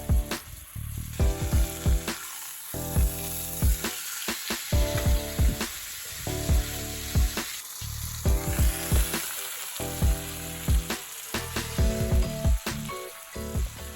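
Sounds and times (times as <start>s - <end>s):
background music with bass beat: 0.0s - 2.2s, 2.8s - 4.0s, 4.7s - 7.5s, 8.2s - 13.9s
steak sizzling in a skillet: 0.0s - 13.9s.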